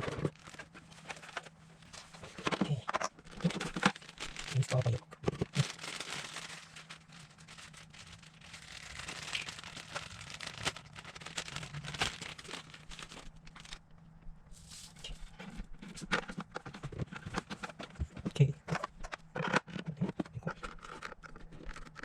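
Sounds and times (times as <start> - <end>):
plastic packaging rustling: 0.0 - 13.8, 14.6 - 22.0.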